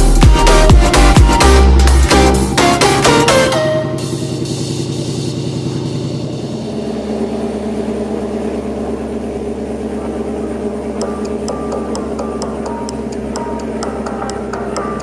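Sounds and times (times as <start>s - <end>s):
car exhaust idling: 0.0s - 15.0s
high ticking: 0.0s - 15.0s.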